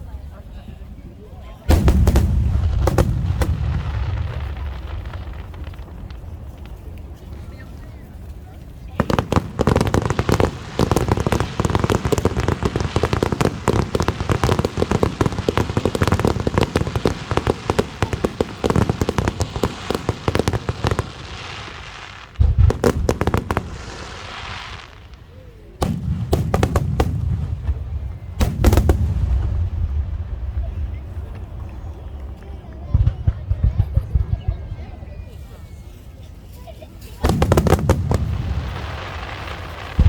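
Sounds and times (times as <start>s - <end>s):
fireworks bursts and crackling: 0.0s - 40.0s
deep fireworks booms: 1.6s - 35.5s, 37.1s - 40.0s.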